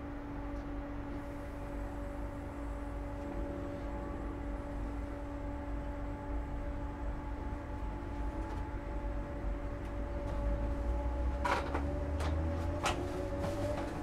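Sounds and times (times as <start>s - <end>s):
train low rumble: 0.0s - 14.0s
traction motor whine: 1.3s - 14.0s.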